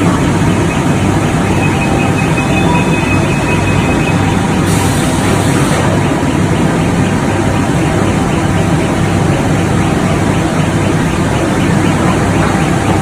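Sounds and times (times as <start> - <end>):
rolling mill din and hum: 0.0 - 13.0.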